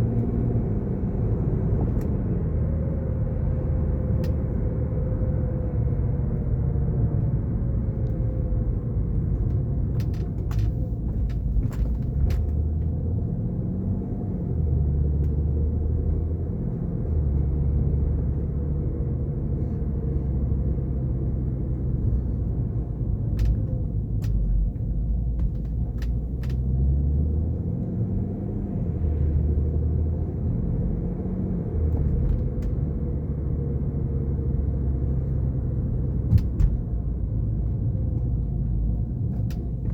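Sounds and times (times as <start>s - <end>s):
car drivetrain rumble: 0.0s - 39.9s.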